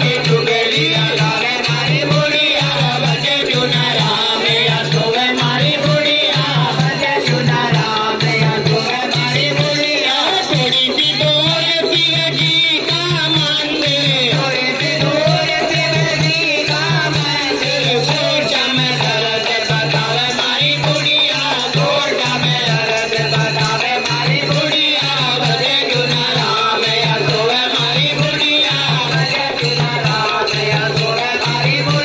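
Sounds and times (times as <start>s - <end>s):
jingling hand percussion: 0.0s - 32.0s.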